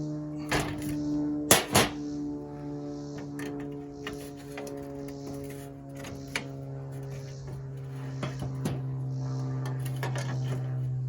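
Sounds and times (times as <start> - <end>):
steady droning hum: 0.0 - 11.0.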